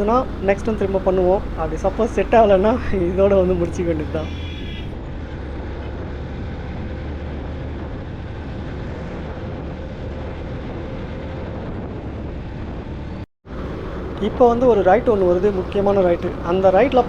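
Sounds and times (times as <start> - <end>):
motorcycle engine drone: 0.0 - 17.0
wind rushing over microphone: 0.0 - 17.0.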